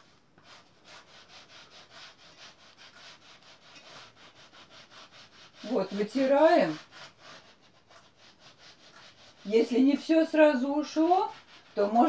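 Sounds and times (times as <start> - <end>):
wiper rubbing on brick: 0.0 - 12.0.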